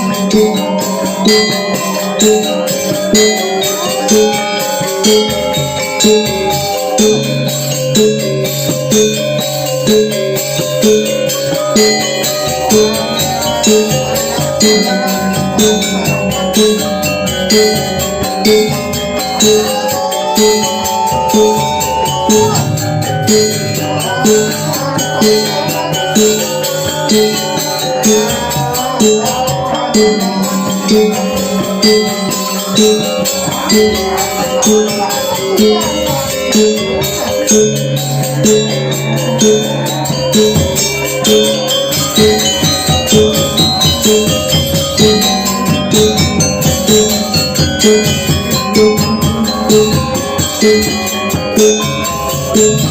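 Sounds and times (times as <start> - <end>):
music with steady beat: 0.0 - 52.9
sustained pitched tones: 0.0 - 52.9.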